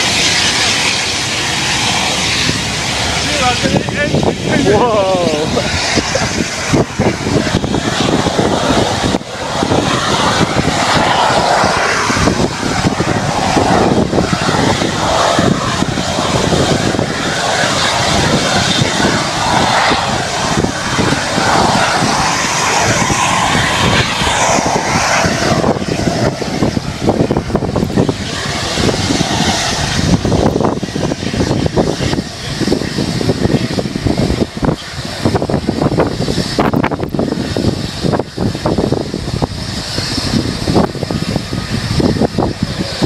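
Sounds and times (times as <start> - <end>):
falling whine: 0.0 - 43.0
jet blast buffeting microphone: 0.0 - 43.0
jet engine roar: 0.0 - 43.0.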